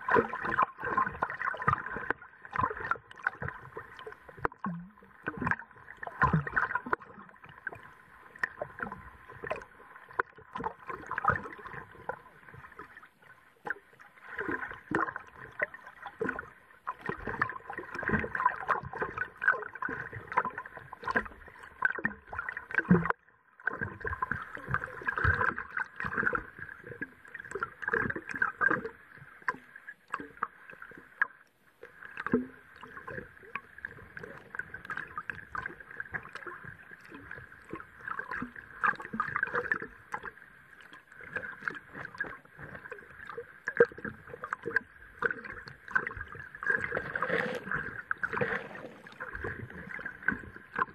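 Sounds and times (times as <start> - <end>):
muffled underwater water movement: 0.0 - 50.9
small underwater clicks and knocks: 0.0 - 50.9.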